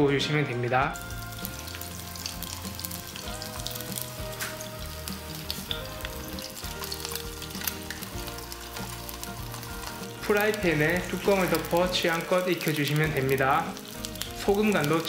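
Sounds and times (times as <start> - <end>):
oil sizzling in a frying pan: 0.9 - 15.0.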